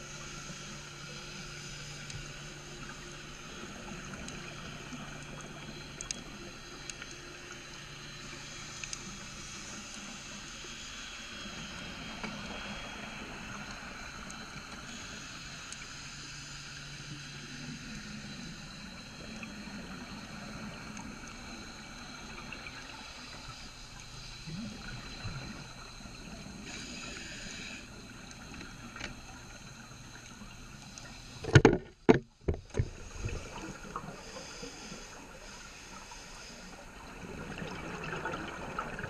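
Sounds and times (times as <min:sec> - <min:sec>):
muffled underwater hiss: 0:00.0 - 0:39.0.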